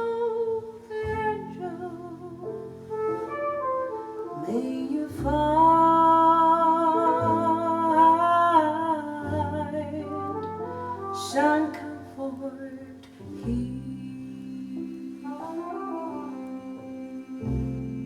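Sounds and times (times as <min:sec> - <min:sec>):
slow ballad music: 0:00.0 - 0:18.0.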